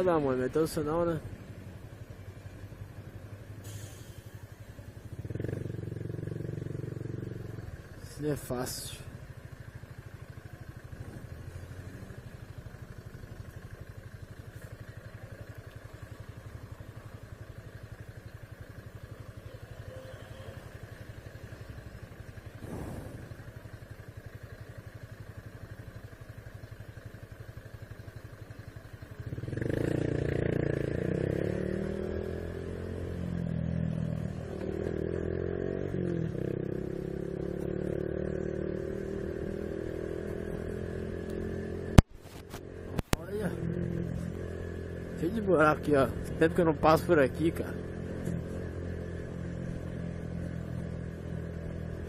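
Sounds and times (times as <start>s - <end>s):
motorbike engine running and revving: 0.0s - 52.0s.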